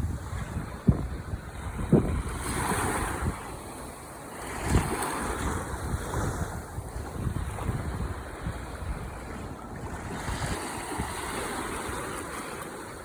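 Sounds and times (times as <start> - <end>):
ocean waves breaking on shore: 0.0 - 13.0
wind buffeting microphone: 0.0 - 13.0.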